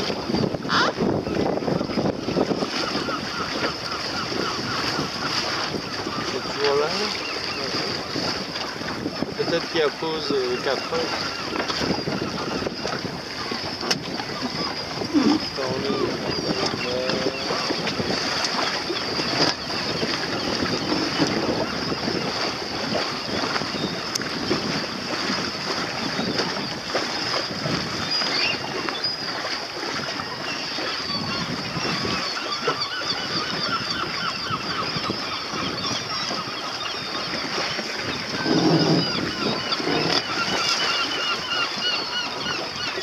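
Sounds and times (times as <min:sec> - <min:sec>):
seabirds calling: 0:00.0 - 0:43.0
wind and water rushing: 0:00.0 - 0:43.0.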